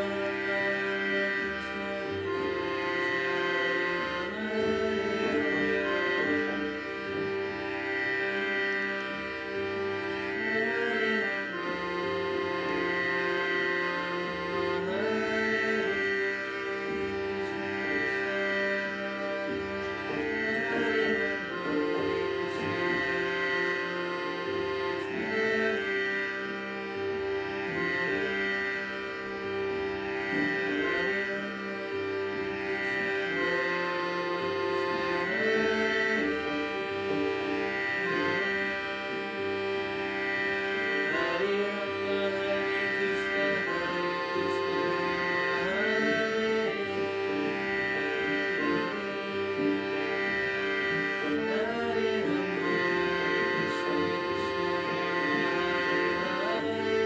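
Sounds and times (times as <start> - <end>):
harmonium melody: 0.0 - 57.0.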